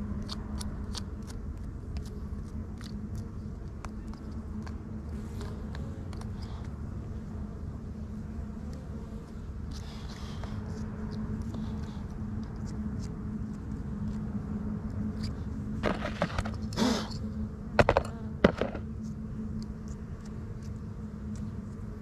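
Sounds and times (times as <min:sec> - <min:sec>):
bees buzzing: 0:04.3 - 0:22.0.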